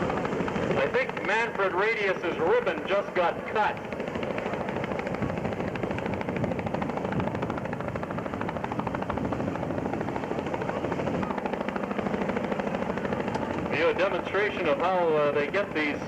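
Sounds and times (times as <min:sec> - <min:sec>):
helicopter rotors chopping: 0:00.0 - 0:16.0.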